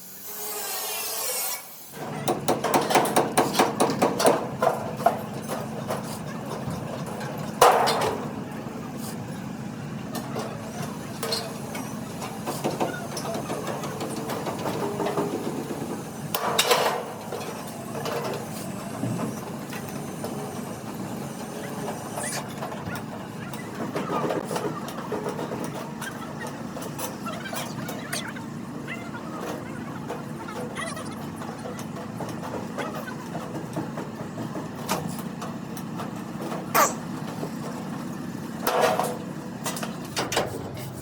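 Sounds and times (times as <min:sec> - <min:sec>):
knocks and clanks: 0:02.0 - 0:08.3, 0:10.1 - 0:28.4, 0:29.3 - 0:41.0
engine hum: 0:02.1 - 0:41.0.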